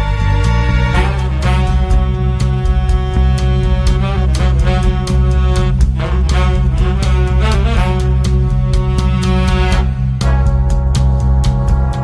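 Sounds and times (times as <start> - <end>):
bass line: 0.0 - 12.0
music with steady beat: 0.0 - 12.0.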